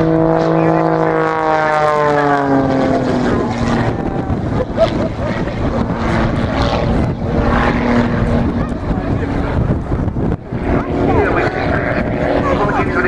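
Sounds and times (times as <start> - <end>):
propeller aircraft engine passing: 0.0 - 13.0.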